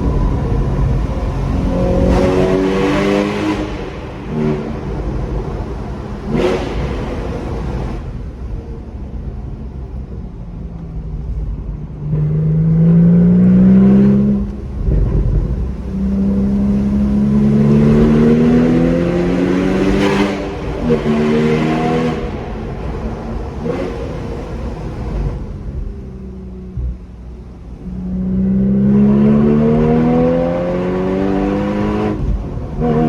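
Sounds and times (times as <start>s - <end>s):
sports car engine accelerating: 0.0s - 9.8s, 11.2s - 33.0s.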